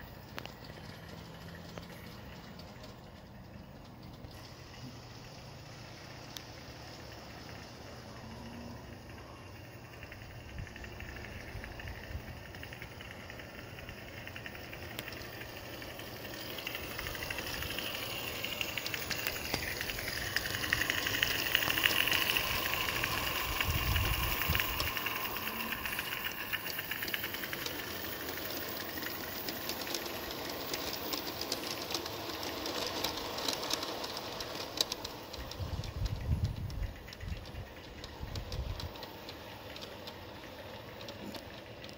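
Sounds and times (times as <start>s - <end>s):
cars rolling on track: 0.0s - 41.9s
steam locomotive ticks and clatter: 0.0s - 41.9s
steam hiss: 4.3s - 41.8s.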